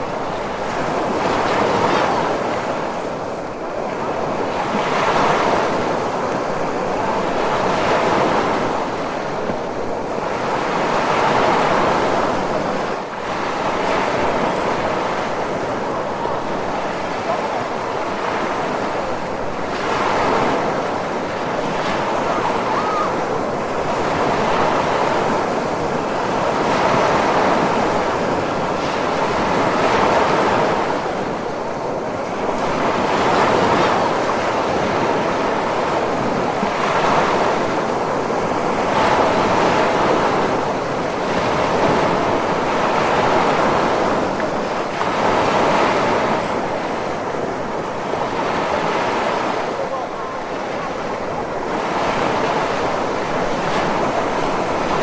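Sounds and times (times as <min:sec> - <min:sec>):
ocean surf waves breaking: 0:00.0 - 0:55.0.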